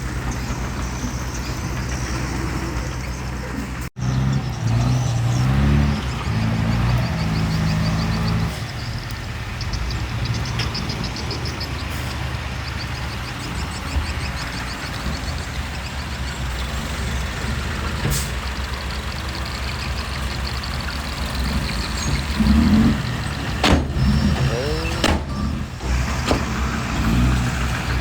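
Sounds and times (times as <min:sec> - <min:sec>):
diesel machinery rumbling: 0:00.0 - 0:28.0.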